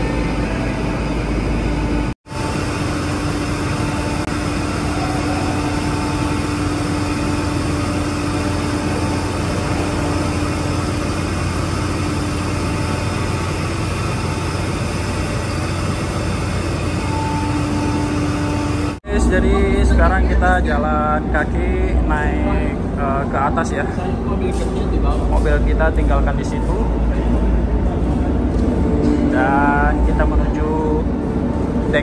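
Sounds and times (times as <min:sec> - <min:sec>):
heavy engines droning: 0:00.0 - 0:32.0.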